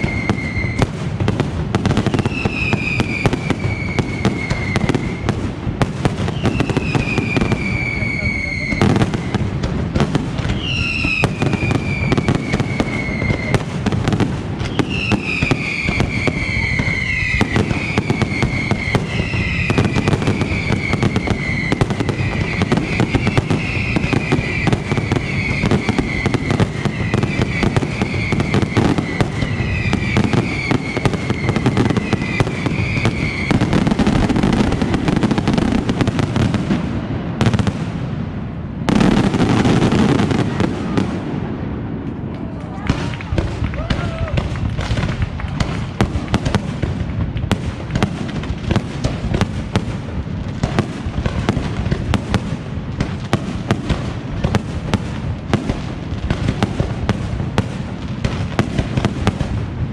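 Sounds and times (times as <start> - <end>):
fireworks crackling and banging: 0.0 - 59.9
whistling fireworks falling in pitch: 0.0 - 59.9.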